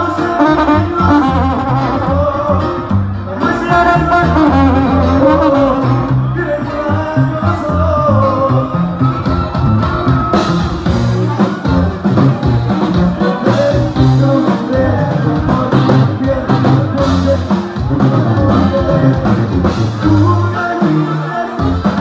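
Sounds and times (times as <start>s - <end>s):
person singing: 0.0s - 9.4s, 12.9s - 22.0s
live band playing: 0.0s - 22.0s.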